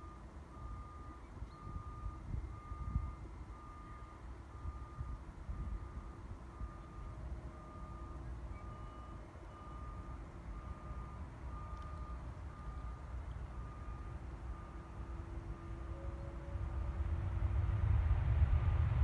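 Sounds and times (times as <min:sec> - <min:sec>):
vehicle reversing alarm beeping: 0:00.0 - 0:17.0
continuous low rumble: 0:00.0 - 0:19.0.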